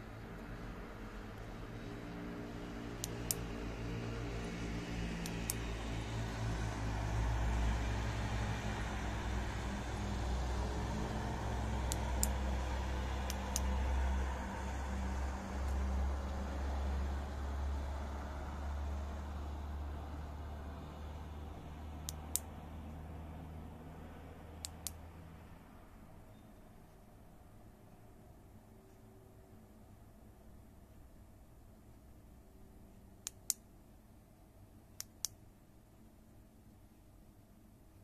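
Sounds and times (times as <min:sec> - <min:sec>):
distant road traffic rumble: 0:00.0 - 0:30.6
steady low hum: 0:00.0 - 0:38.0.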